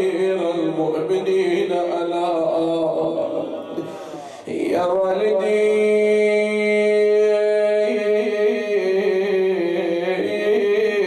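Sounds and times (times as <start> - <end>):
man chanting poetry: 0.0 - 11.0.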